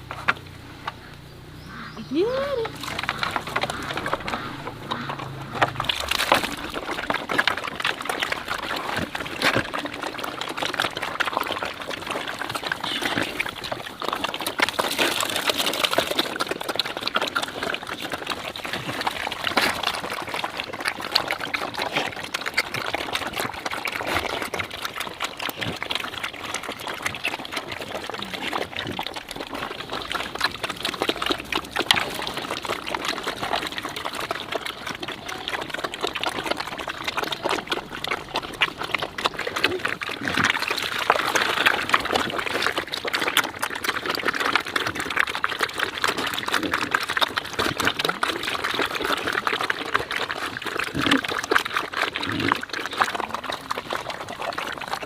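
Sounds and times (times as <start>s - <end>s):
water splashing and pouring: 2.2s - 55.0s.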